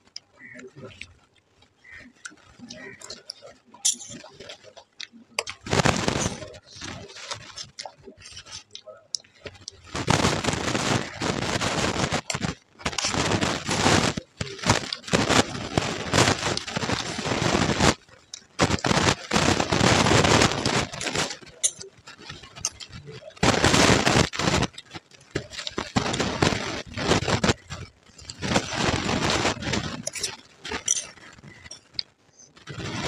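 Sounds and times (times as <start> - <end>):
crunchy chewing of puffed rice: 0.1 - 33.0.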